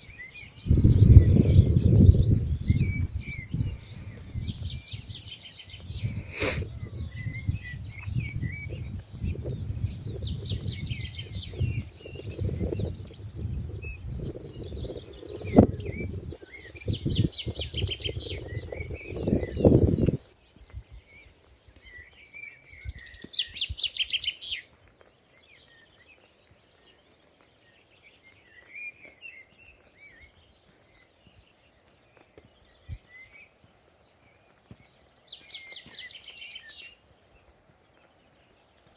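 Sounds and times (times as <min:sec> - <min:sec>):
bird chirps and warbles: 0:00.0 - 0:38.9
songbird trill: 0:00.0 - 0:38.9.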